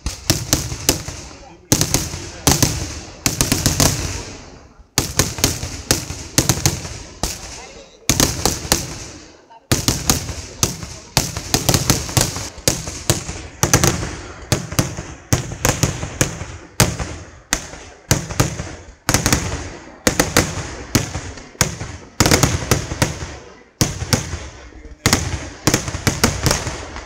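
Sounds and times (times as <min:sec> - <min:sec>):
firework shells bursting: 0:00.0 - 0:23.2.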